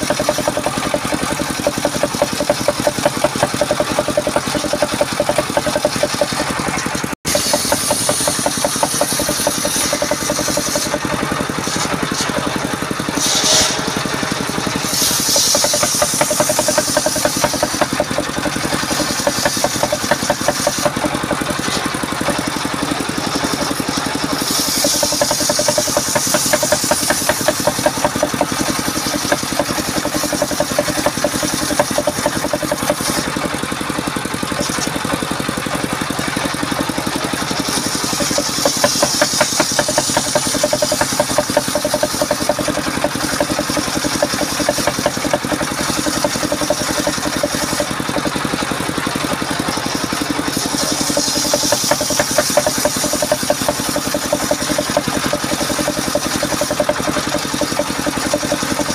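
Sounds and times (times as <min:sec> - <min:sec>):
diesel engine knocking: 0:00.0 - 0:58.9
saw blade ripping wood: 0:00.0 - 0:58.9.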